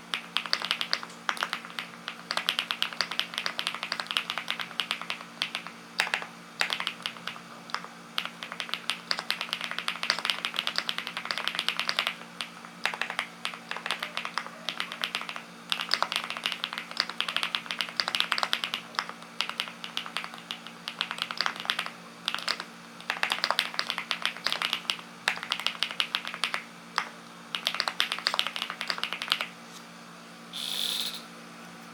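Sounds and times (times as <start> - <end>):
faint steady hum: 0.0 - 31.9
mechanical keyboard typing: 0.1 - 29.5.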